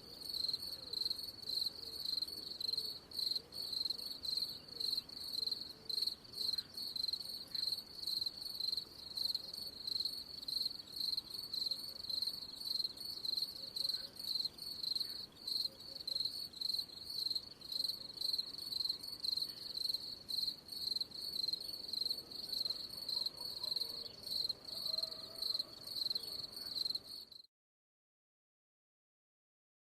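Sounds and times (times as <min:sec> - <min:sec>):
cricket chirping: 0:00.0 - 0:27.5.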